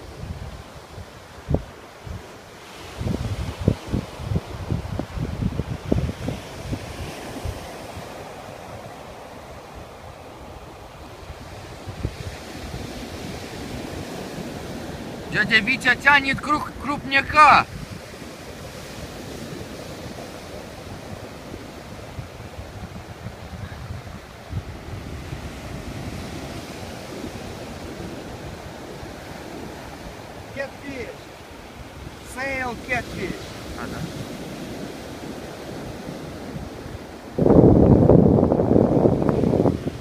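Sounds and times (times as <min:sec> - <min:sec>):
surf breaking on a beach: 0:00.0 - 0:40.0
wind buffeting the microphone: 0:00.0 - 0:40.0.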